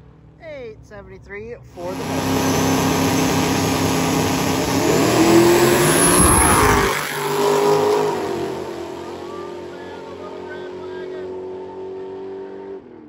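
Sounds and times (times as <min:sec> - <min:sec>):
drag race engines at full throttle: 0:01.7 - 0:13.0.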